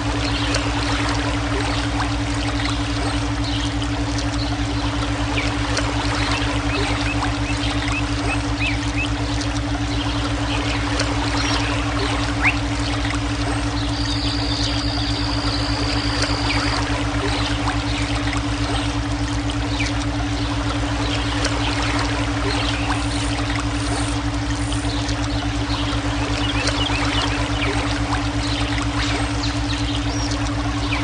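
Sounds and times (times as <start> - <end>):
low electronic drone: 0.0 - 31.0
running water splashing: 0.0 - 31.0.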